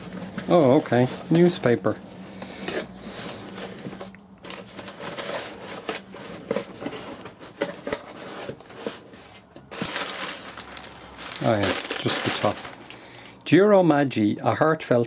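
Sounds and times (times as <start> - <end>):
newspaper packing rustling: 0.0 - 13.4.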